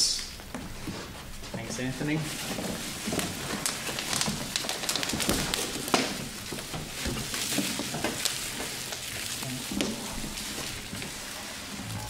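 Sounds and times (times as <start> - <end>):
plastic wrapping crackling: 0.1 - 12.0.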